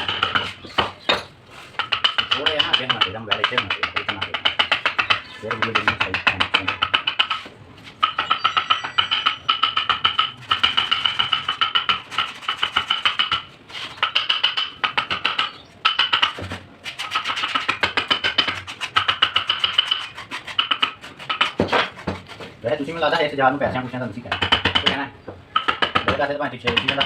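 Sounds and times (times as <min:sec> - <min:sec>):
mallet striking chisel: 0:00.0 - 0:27.0.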